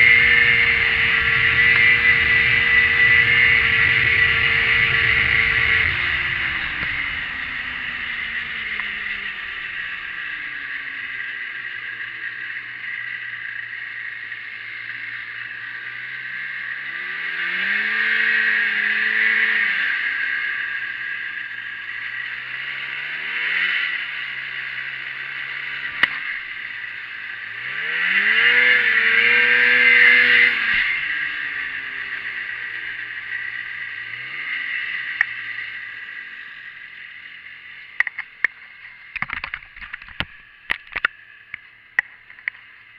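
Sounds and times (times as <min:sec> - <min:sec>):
snowmobile engine revving and idling: 0:00.0 - 0:42.9.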